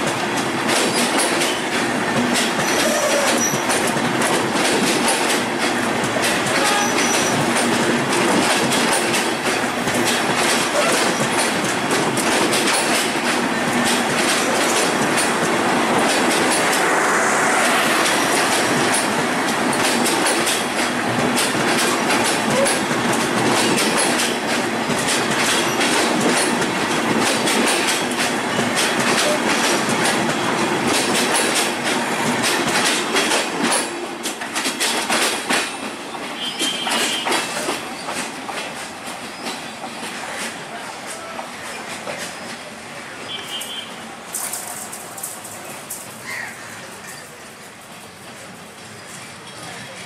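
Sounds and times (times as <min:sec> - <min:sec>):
clickety-clack over rail joints: 0:00.0 - 0:50.0
train wheels rumbling on rail: 0:00.0 - 0:50.0.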